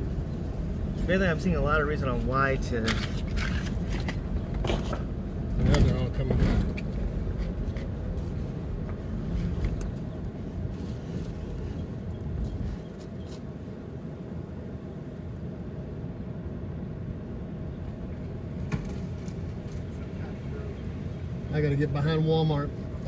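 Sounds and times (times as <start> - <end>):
car low rumble from inside: 0.0 - 23.0.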